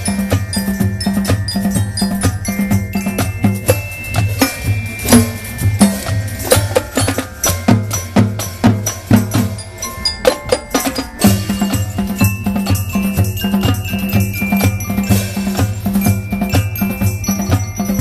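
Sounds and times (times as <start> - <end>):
bell-like mallet tones: 0.0 - 18.0
marching band drums: 0.0 - 18.0.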